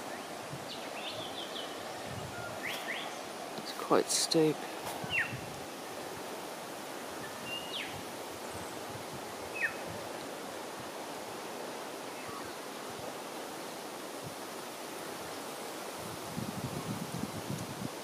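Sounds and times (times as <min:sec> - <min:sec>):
breeze in treetops: 0:00.0 - 0:18.0.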